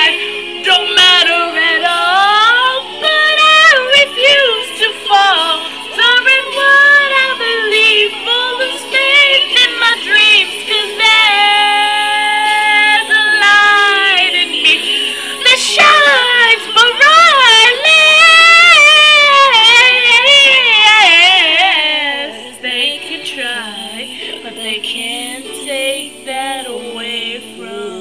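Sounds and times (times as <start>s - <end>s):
pop ballad backing music: 0.0s - 28.0s
woman singing vocal runs: 0.7s - 28.0s.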